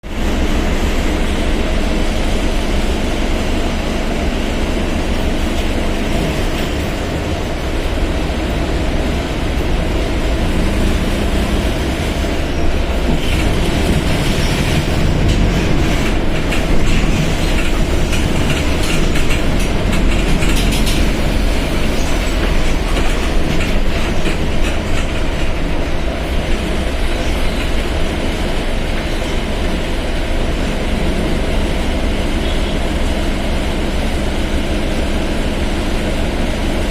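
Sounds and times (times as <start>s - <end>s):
diesel bus engine droning: 0.0s - 36.9s.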